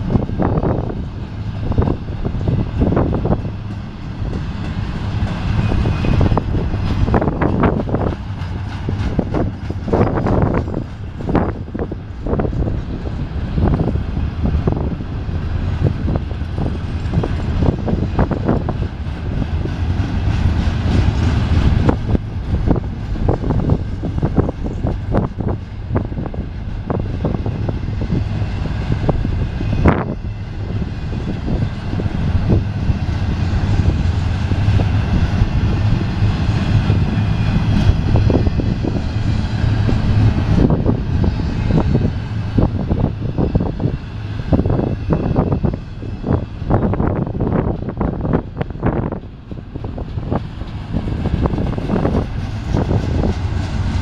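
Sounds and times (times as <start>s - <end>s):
train cars clanking: 0.0s - 54.0s
train wheels rumbling on rails: 0.0s - 54.0s.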